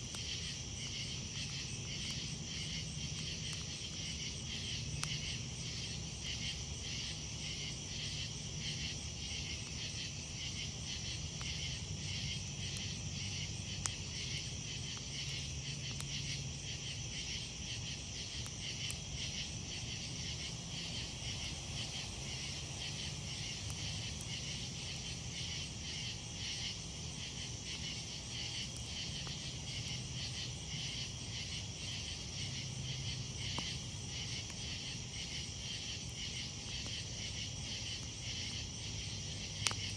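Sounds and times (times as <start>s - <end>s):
campfire crackling: 0.0s - 39.9s
fire popping: 0.0s - 39.9s
night insects chirping: 0.0s - 39.9s.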